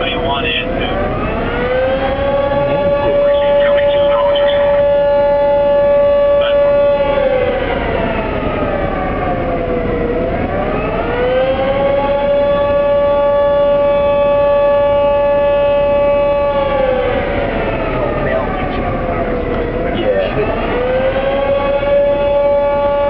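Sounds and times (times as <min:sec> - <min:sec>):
siren wailing: 0:00.0 - 0:23.0.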